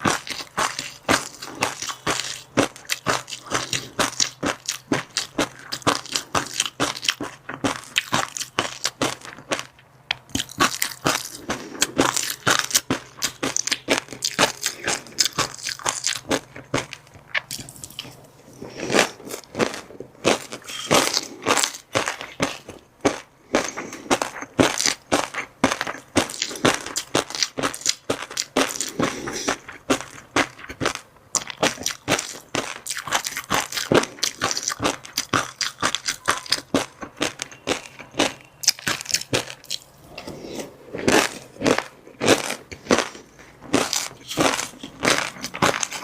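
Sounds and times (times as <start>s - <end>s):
crunchy eating bites: 0.0s - 46.0s.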